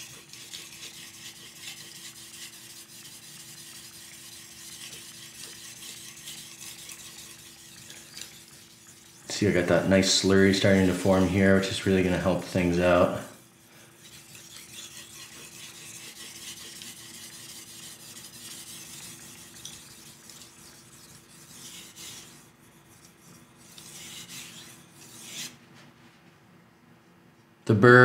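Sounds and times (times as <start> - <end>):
knife blade scraping on whetstone: 0.0 - 11.7, 12.6 - 25.6.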